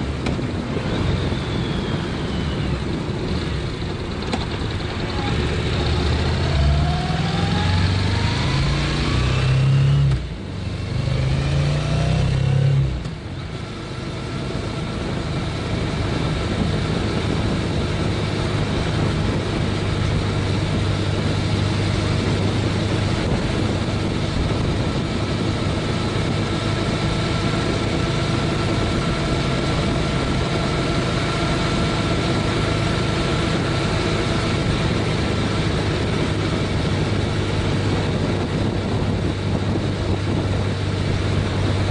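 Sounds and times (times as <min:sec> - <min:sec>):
motorcycle engine accelerating: 0:00.0 - 0:41.9
rush of air and road noise: 0:00.0 - 0:41.9.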